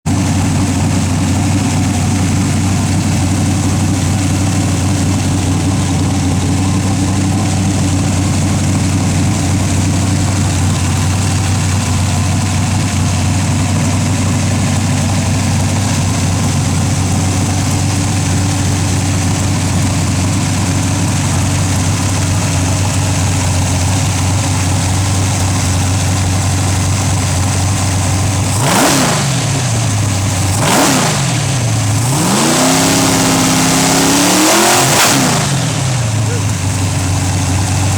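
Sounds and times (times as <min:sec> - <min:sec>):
engine idling and revving: 0:00.0 - 0:37.9.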